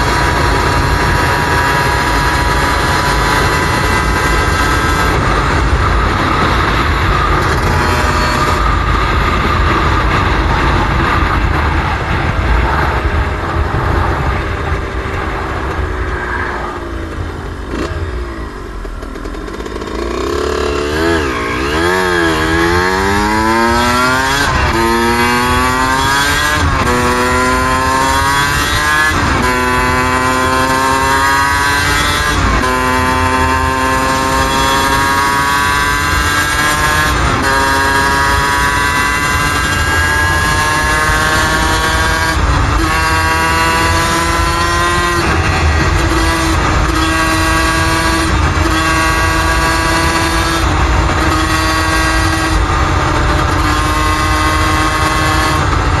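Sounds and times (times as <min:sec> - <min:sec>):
dirt bike engine revving: 0:00.0 - 0:11.4, 0:16.7 - 0:56.0
wind noise on microphone: 0:00.0 - 0:56.0.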